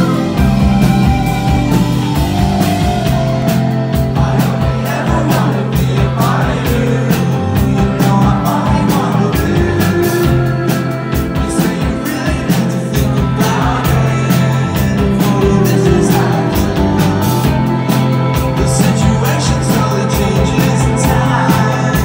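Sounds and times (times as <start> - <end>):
bass guitar: 0.0 - 22.0
drums keeping a quick beat: 0.0 - 22.0
electric guitars: 0.0 - 22.0
person singing: 0.0 - 22.0.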